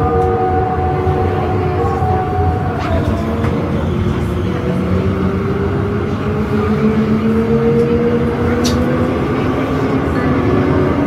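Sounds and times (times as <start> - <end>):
tram motor whine: 0.0 - 11.0
tram wheels rumbling: 0.0 - 11.0.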